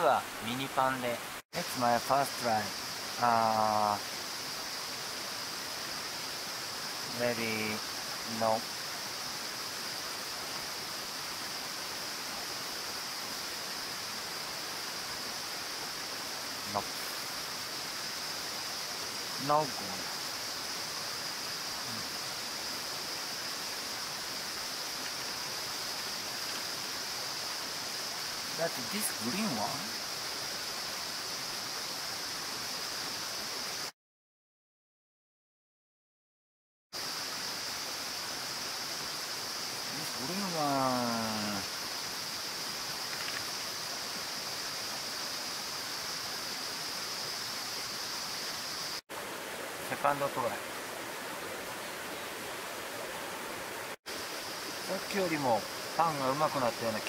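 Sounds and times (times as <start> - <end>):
stream flowing: 0.0 - 33.9, 37.0 - 57.0.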